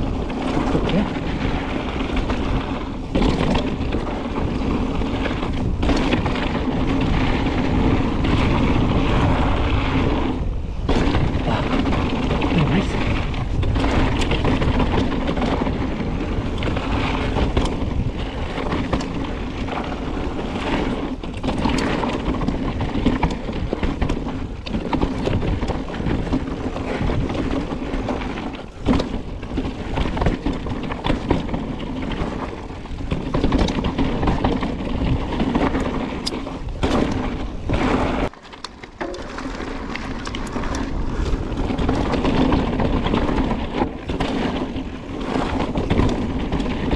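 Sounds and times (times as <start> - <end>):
wind rush: 0.0 - 38.4
bike knocks and rattles: 0.0 - 46.9
tyre rumble on gravel: 0.0 - 46.9.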